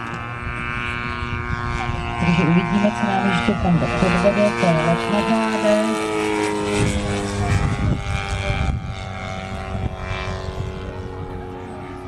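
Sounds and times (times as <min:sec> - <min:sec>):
model aeroplane engine buzzing: 0:00.0 - 0:12.0.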